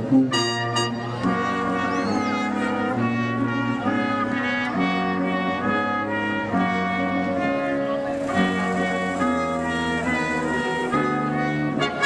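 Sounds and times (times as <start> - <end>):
brass music with held notes: 0.0 - 12.0.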